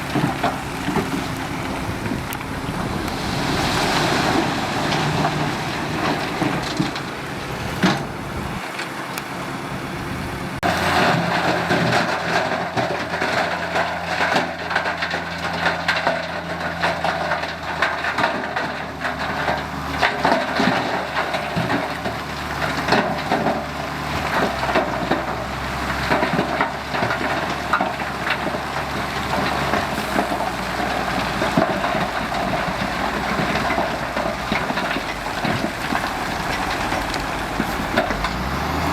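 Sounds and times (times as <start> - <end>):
dirt and stones clattering: 0.0 - 9.3, 10.6 - 38.9
heavy diesel machinery running: 0.0 - 38.9.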